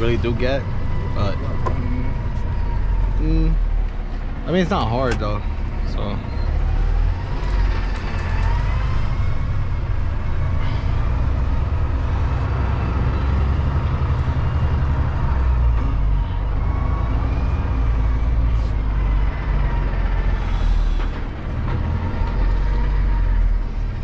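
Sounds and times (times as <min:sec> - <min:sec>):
truck engine rumble: 0:00.0 - 0:24.0.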